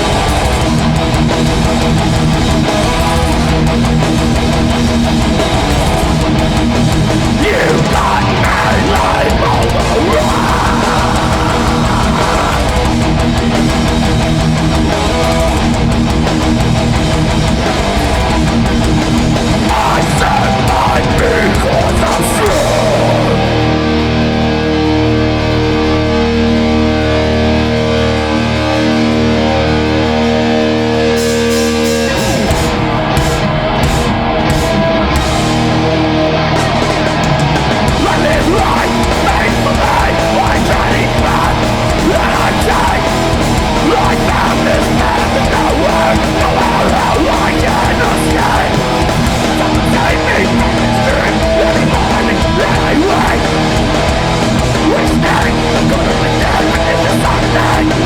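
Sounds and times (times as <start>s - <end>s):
drums pounding fast beat: 0.0s - 23.6s, 31.2s - 58.0s
distorted electric guitar chord: 0.0s - 58.0s
hardcore band playing: 0.0s - 58.0s.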